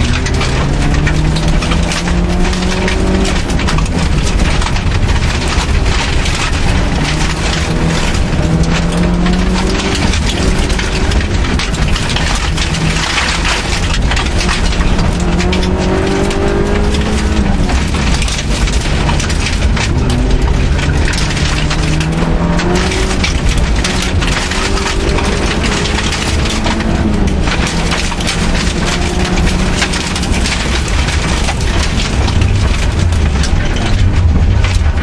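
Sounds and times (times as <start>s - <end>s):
gravel noise: 0.0s - 35.0s
rally car engine revving: 0.0s - 35.0s
stones ticking against car: 0.0s - 35.0s.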